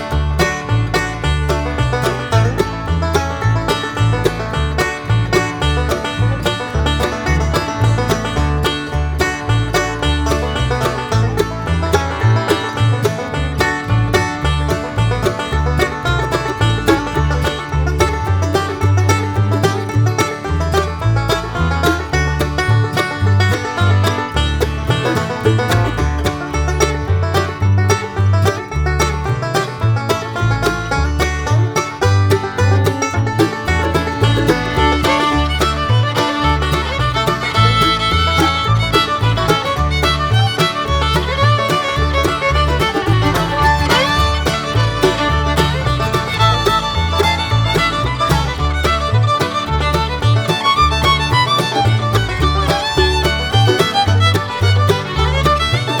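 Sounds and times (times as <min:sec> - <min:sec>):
instrumental music with driving beat: 0:00.0 - 0:56.0.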